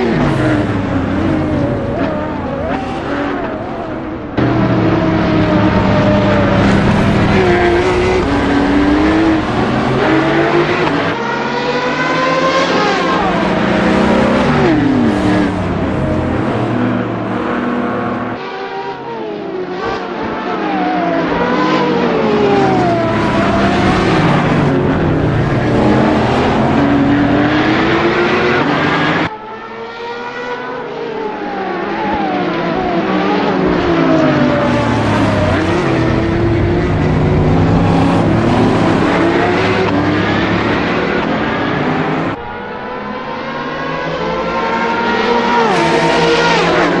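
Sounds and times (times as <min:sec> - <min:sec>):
racing car engines revving: 0:00.0 - 0:47.0.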